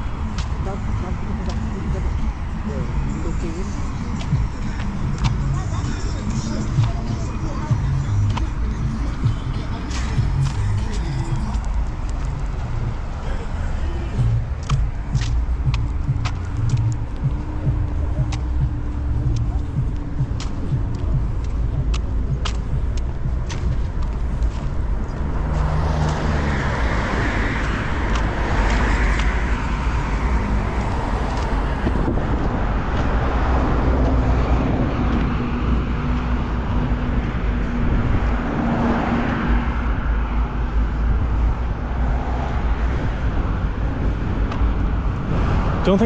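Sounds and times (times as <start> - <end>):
cars passing: 0.0 - 46.0
constant low traffic rumble: 0.0 - 46.0.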